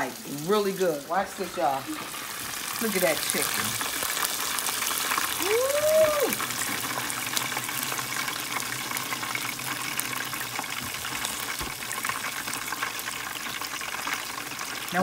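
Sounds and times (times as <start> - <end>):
oil hissing and crackling in fryer: 0.0 - 15.0.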